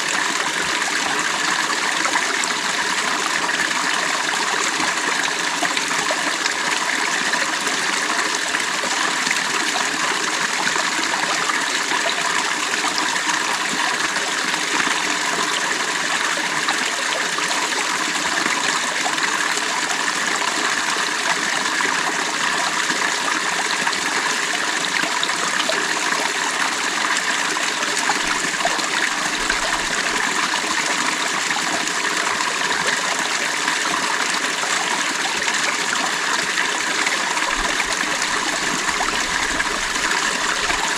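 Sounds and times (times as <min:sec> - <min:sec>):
creek water babbling over stones: 0:00.0 - 0:40.9.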